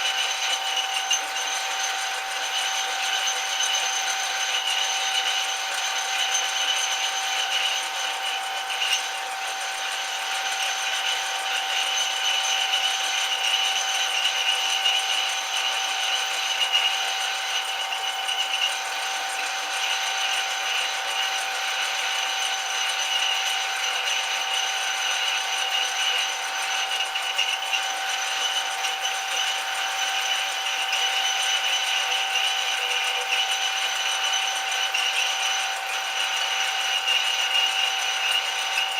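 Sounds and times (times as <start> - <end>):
metal lathe whine: 0.0 - 38.9.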